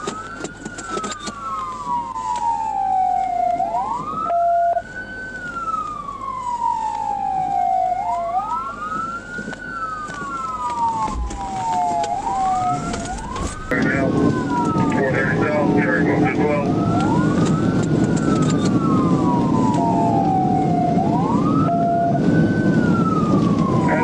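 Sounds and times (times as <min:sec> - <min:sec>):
police sirens wailing: 0:00.0 - 0:24.0.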